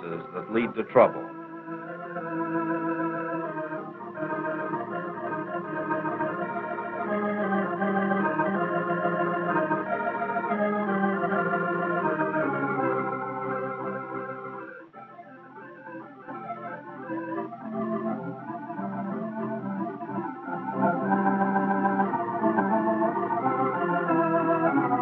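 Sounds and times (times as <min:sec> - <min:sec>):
organ music: 0:00.0 - 0:25.0.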